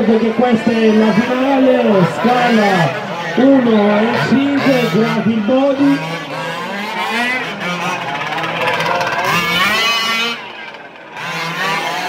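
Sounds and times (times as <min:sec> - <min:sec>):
small engines buzzing and revving: 0:00.0 - 0:12.0.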